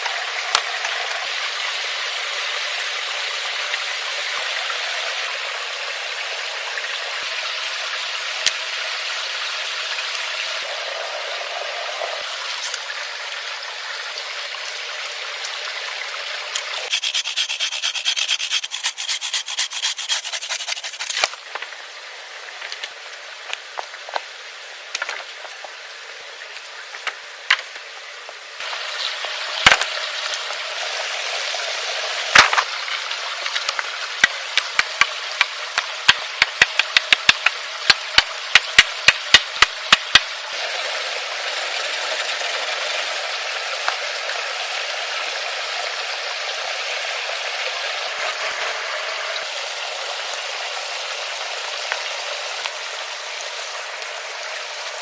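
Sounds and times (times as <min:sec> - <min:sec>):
stream rushing: 0:00.0 - 0:55.0.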